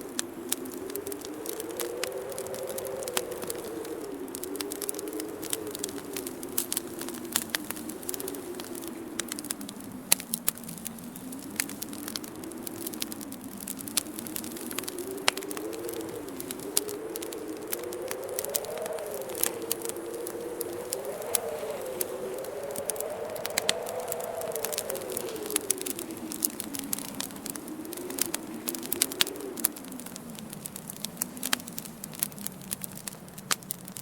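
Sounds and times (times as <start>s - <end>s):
whistling wind: 0.0s - 34.0s
wood fire crackling and popping: 0.0s - 34.0s.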